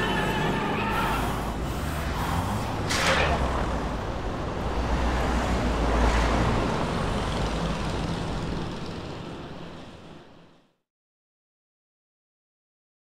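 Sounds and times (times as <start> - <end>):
vehicle rumble: 0.0 - 10.7.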